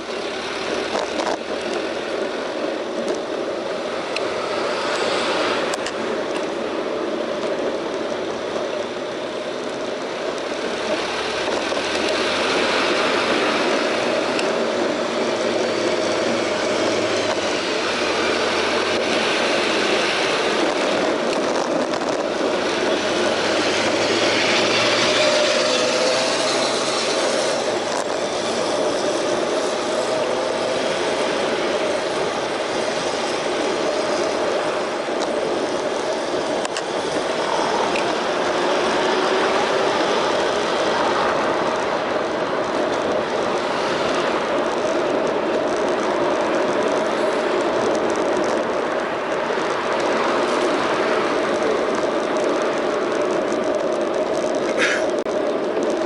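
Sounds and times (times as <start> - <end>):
bicycle road noise: 0.0 - 56.0
rushing wind: 0.0 - 56.0.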